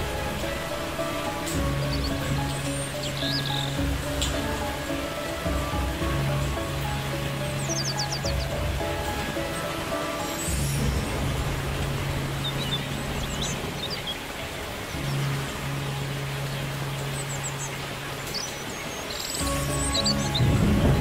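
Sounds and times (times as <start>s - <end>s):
birds chirping: 0.0s - 21.0s
even hiss: 0.0s - 21.0s.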